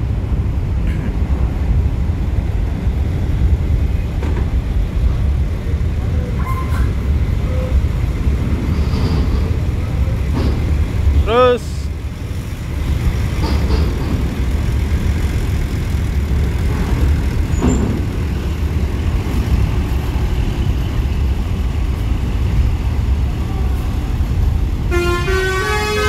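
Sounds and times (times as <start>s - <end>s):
diesel bus engine rumble: 0.0s - 26.0s.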